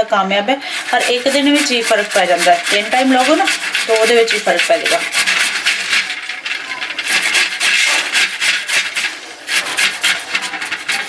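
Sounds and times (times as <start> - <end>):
ginger rasping on hand grater: 0.7 - 11.0.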